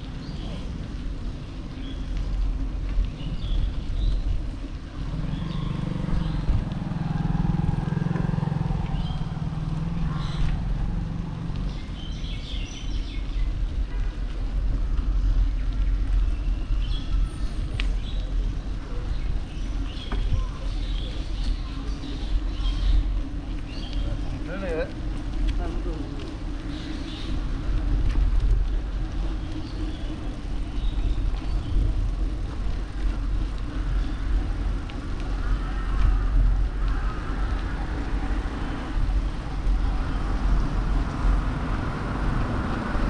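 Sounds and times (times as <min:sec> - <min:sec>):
bicycle tyres on wet asphalt: 0:00.0 - 0:43.0
wind buffeting microphone: 0:00.0 - 0:43.0.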